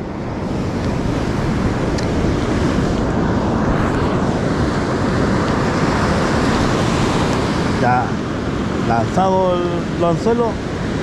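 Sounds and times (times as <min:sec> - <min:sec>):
surf washing on a beach: 0:00.0 - 0:11.0
wind noise on microphone: 0:00.0 - 0:11.0.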